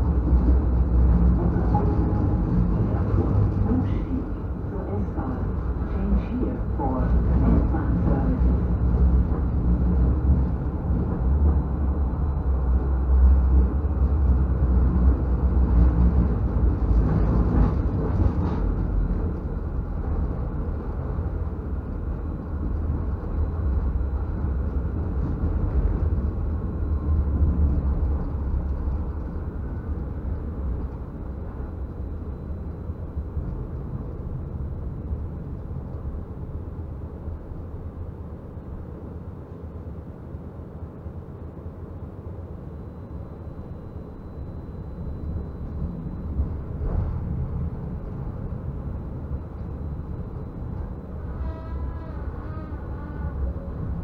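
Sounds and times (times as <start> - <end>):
tram rumbling along track: 0.0 - 54.0.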